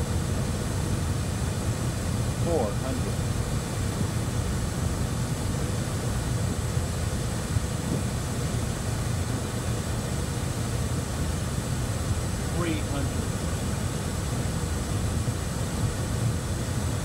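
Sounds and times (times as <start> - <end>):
faint high whine: 0.0 - 17.0
jet cockpit airflow and engine rush: 0.0 - 17.0.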